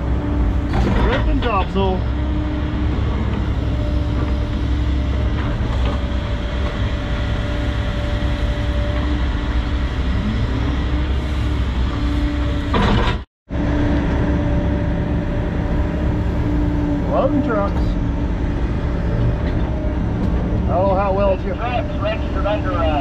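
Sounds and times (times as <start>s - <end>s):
excavator engine and hydraulics: 0.0s - 23.0s.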